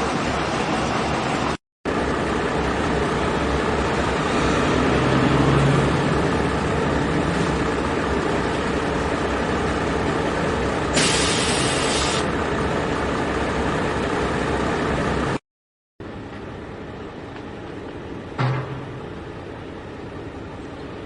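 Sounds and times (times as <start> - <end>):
excavator diesel engine running: 0.0 - 15.4, 16.0 - 21.0.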